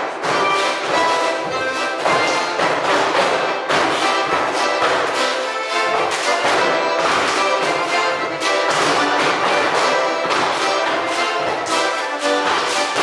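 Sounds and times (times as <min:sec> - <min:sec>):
orchestral music with regular beat: 0:00.0 - 0:13.0.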